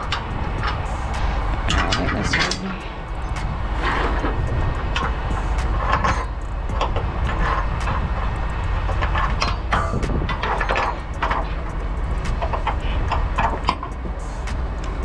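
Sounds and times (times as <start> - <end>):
diesel truck engine rumbling: 0.0 - 15.0
metallic clanks and rattles: 0.0 - 15.0.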